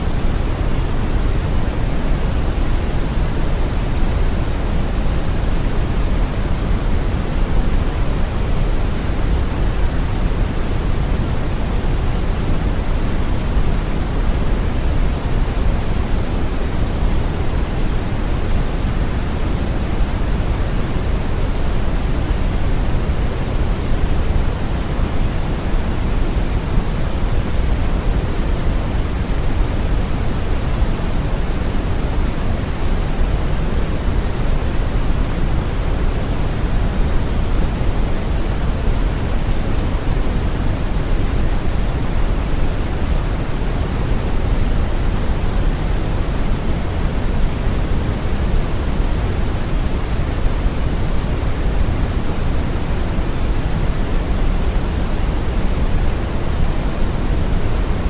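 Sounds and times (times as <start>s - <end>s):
brown noise rumbling hiss: 0.0s - 58.0s.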